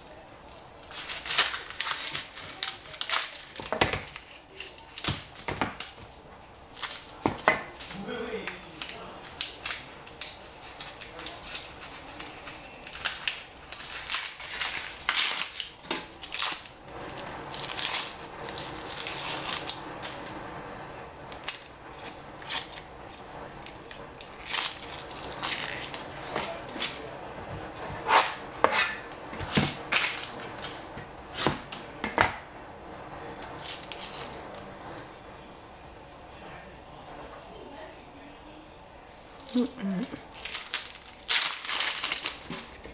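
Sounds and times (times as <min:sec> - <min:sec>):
onion skin rustling and crackling: 0:00.0 - 0:20.4, 0:21.2 - 0:32.2, 0:33.3 - 0:35.2, 0:39.1 - 0:42.9.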